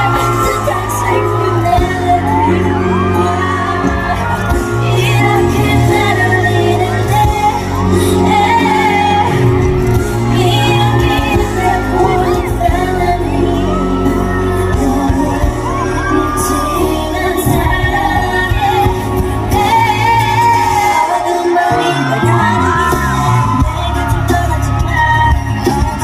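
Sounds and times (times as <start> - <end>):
crowd noise: 0.0 - 26.0
live pop music with singing: 0.0 - 26.0.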